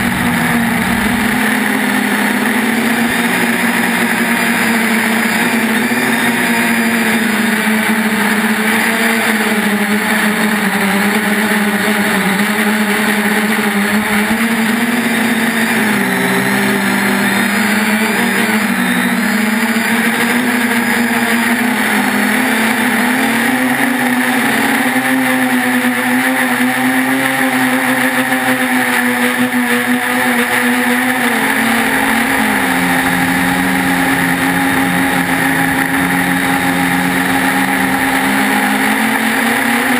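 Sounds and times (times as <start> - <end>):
drone propellers whining: 0.0 - 39.9.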